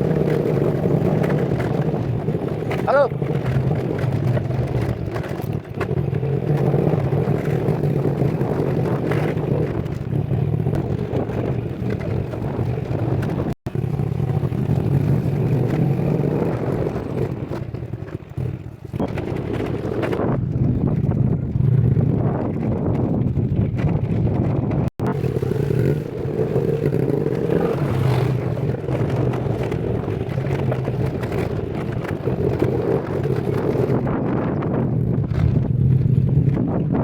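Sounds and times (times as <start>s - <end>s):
vehicle engine running: 0.0s - 36.8s
road noise: 0.0s - 37.0s.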